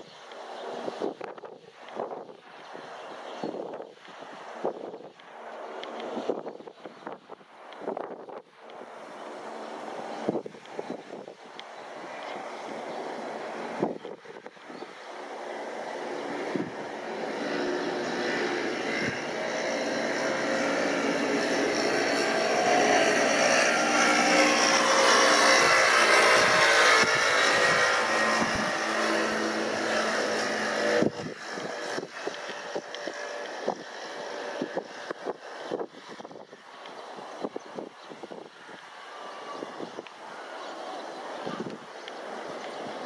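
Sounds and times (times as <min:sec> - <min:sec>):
wind buffeting microphone: 0:00.0 - 0:43.0
jet plane passing overhead: 0:07.6 - 0:43.0.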